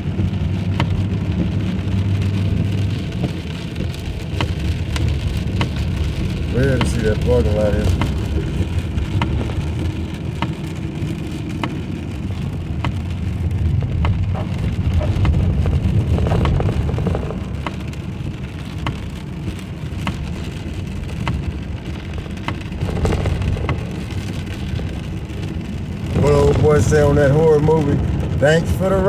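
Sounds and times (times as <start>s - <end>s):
car engine rumble: 0.0s - 29.0s
rain on a car: 0.0s - 29.0s.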